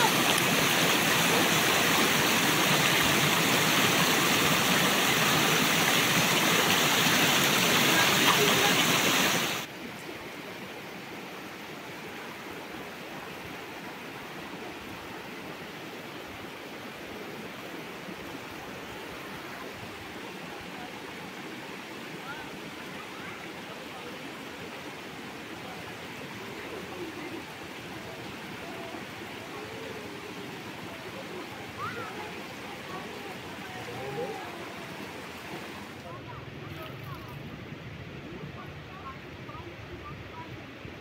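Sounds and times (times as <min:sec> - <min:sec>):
stream rushing over stones: 0:00.0 - 0:41.0.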